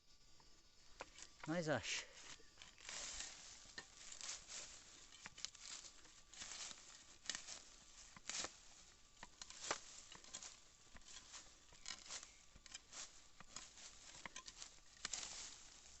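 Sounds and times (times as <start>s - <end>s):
dirt crumbling: 0.9s - 16.0s
hand tool scraping soil: 1.0s - 16.0s.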